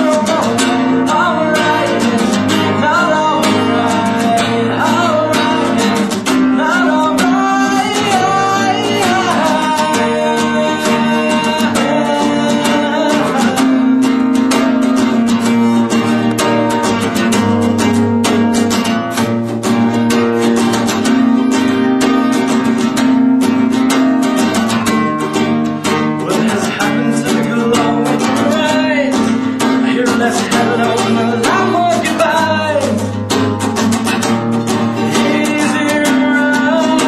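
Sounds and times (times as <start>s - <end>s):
man singing: 0.0s - 19.0s, 25.8s - 37.0s
guitar strummed in chords: 0.0s - 37.0s.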